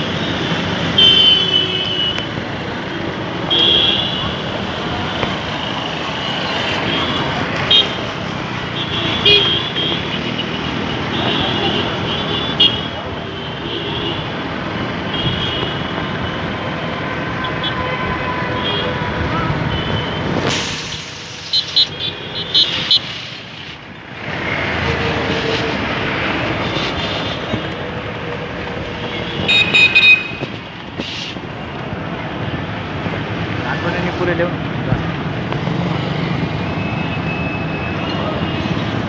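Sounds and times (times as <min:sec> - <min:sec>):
road noise: 0:00.0 - 0:39.0
vehicle engines: 0:00.0 - 0:39.0.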